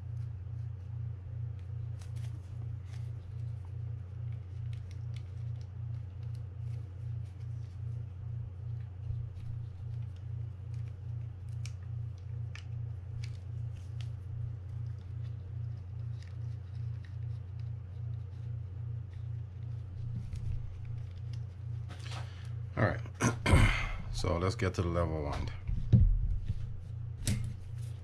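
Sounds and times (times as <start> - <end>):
pulsing low hum: 0.0 - 28.0.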